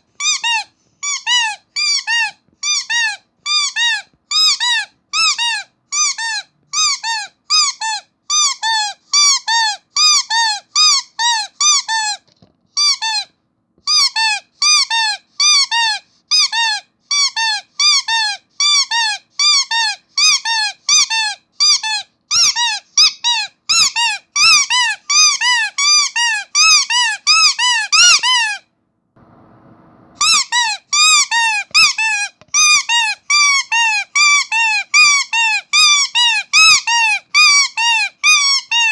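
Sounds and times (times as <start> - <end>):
rubber squeaky toy squeaking: 0.0 - 28.6, 30.2 - 38.9.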